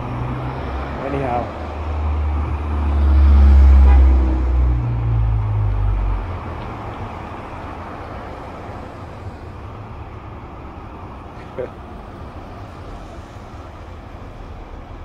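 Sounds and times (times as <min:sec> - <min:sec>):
steady traffic noise: 0:00.0 - 0:15.0.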